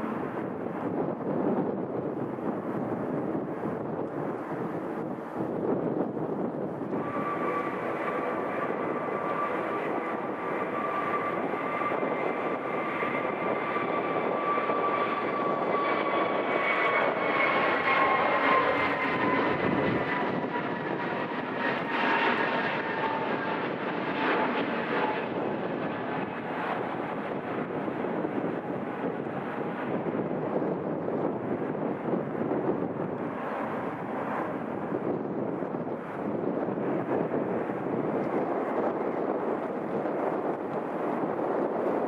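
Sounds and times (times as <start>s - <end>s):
jet engines whining: 0.0s - 42.0s.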